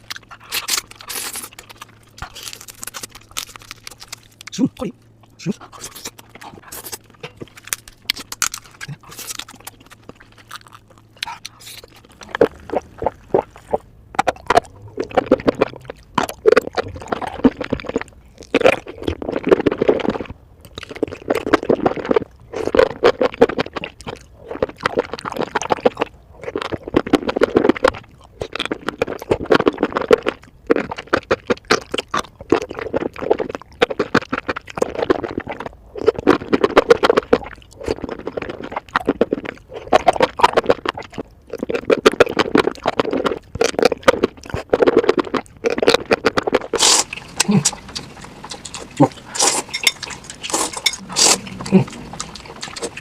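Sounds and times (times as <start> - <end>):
crunching and chewing: 0.0 - 53.0.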